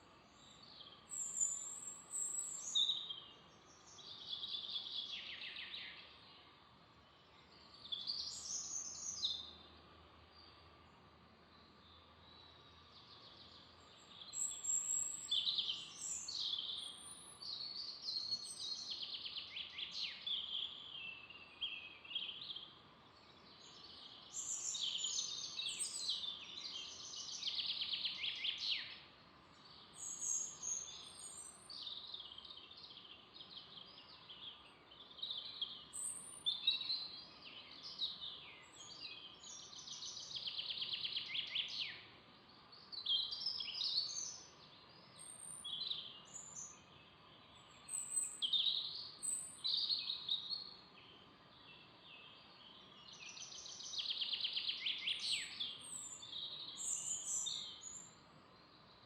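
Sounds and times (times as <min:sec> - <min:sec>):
faint background hiss: 0:00.0 - 0:59.0
songbirds singing: 0:00.0 - 0:59.0.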